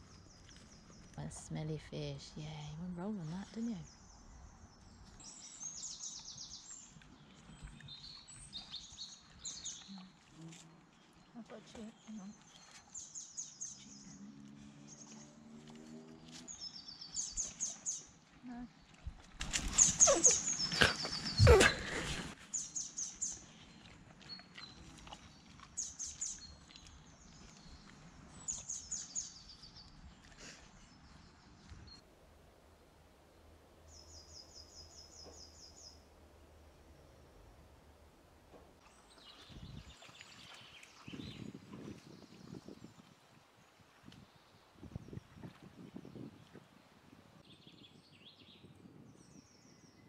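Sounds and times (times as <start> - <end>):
songbirds chirping: 0.0 - 50.0.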